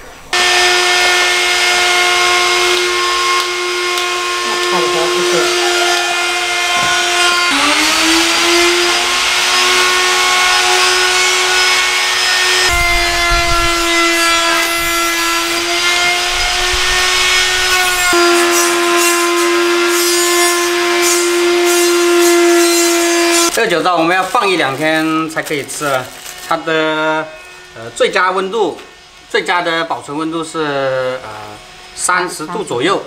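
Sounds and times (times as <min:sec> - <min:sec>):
small electric motor whining: 0:00.3 - 0:23.6, 0:24.3 - 0:29.3.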